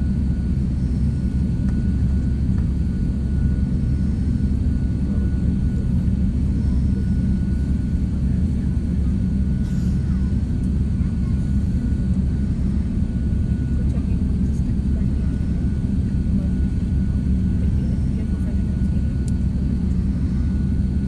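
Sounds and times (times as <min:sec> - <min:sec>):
jet engines rumbling: 0:00.0 - 0:21.0
thin steady whine: 0:00.0 - 0:21.0.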